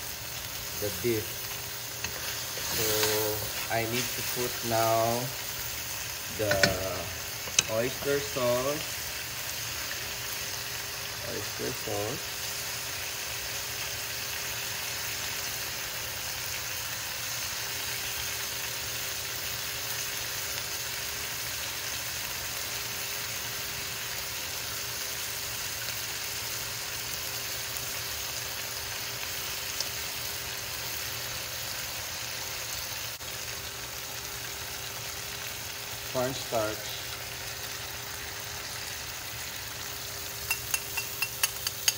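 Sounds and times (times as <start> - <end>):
beef sizzling in a pan: 0.0 - 41.9.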